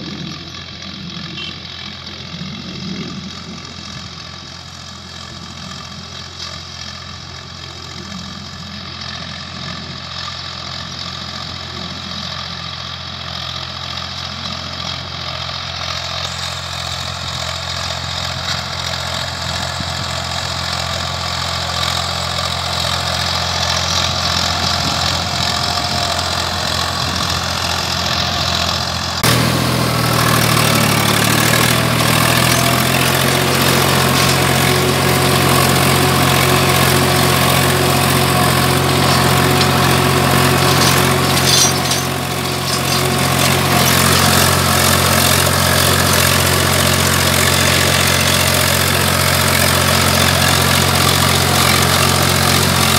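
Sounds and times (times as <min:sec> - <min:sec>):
engine hiss and rattle: 0:00.0 - 0:52.9
tractor diesel engine running: 0:00.0 - 0:52.9.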